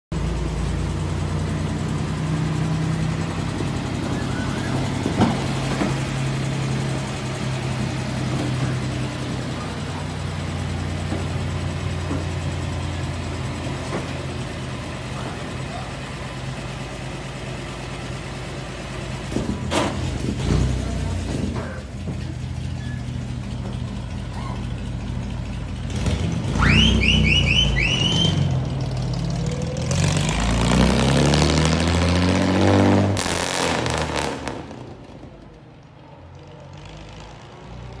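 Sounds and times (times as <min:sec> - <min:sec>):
car engine idling and revving: 0:00.1 - 0:38.0.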